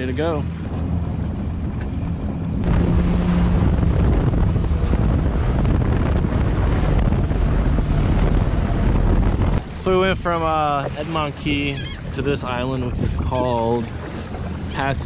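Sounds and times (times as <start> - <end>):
personal watercraft engine drone: 0.0 - 15.0
water rushing: 0.0 - 15.0
wind buffeting the microphone: 0.5 - 15.0.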